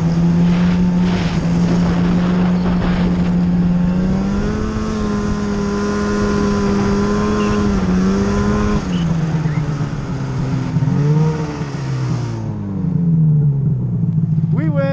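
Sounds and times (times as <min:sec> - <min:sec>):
snowmobile engine running: 0:00.0 - 0:14.9.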